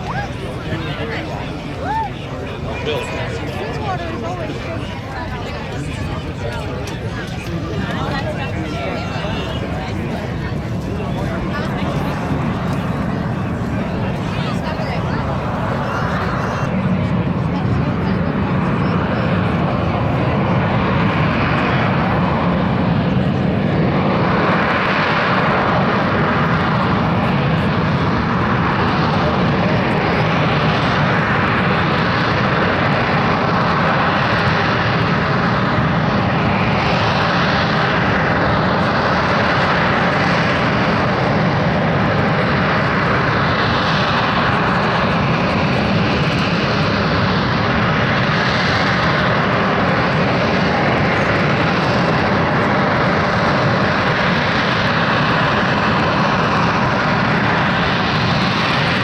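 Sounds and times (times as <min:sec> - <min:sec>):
jet engine roaring: 0:00.0 - 0:59.0.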